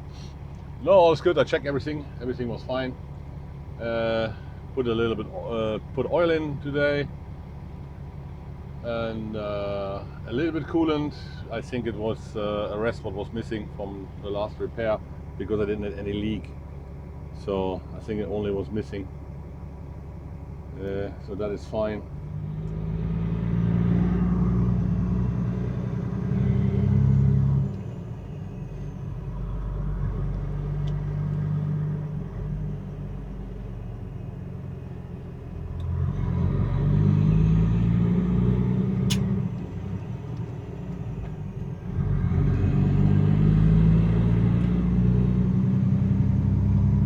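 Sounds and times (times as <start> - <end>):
truck diesel engine accelerating: 0.0 - 47.0.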